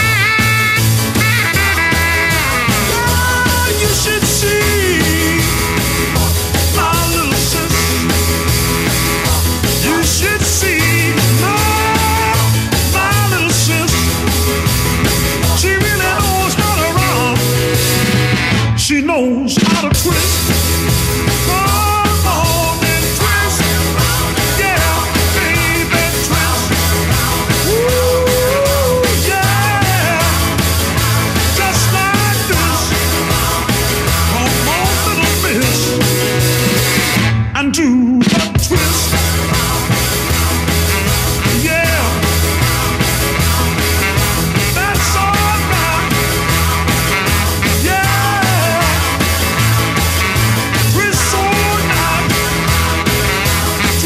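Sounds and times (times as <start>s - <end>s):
rock and roll music: 0.0s - 54.0s.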